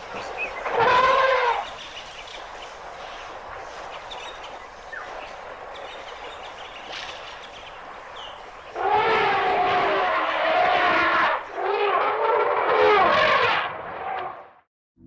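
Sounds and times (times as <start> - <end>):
steady outdoor hiss: 0.0 - 12.5.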